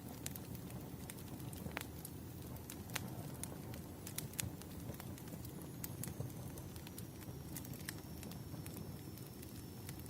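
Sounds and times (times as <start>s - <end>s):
fire pops and snaps: 0.0s - 10.0s
wood fire crackling: 0.0s - 10.0s.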